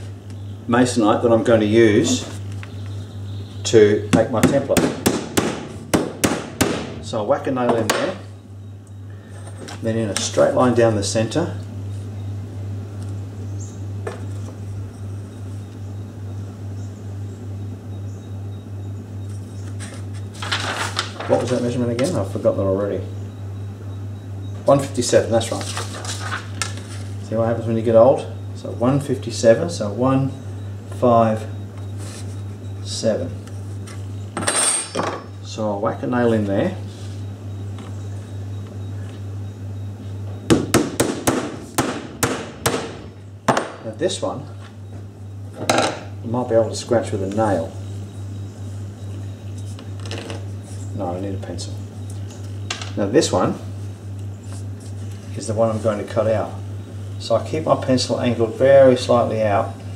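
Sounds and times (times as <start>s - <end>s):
low pulsing hum: 0.0s - 59.9s.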